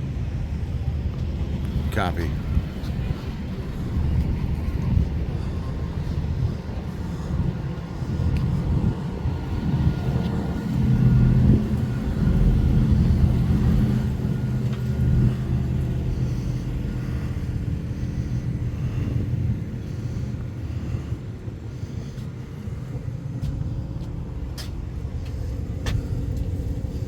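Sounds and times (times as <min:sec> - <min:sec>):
outdoor background rumble: 0:00.0 - 0:27.0
car engine running: 0:01.4 - 0:27.0.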